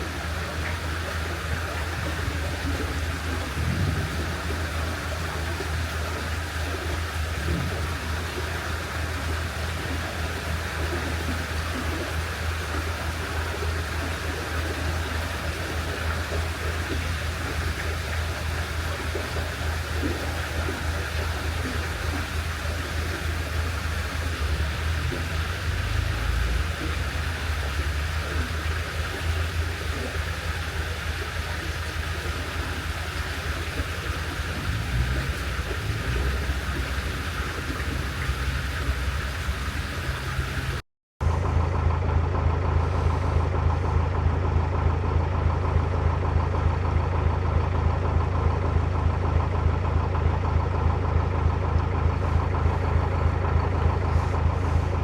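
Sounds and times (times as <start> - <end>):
diesel engine knocking: 0.0 - 55.0.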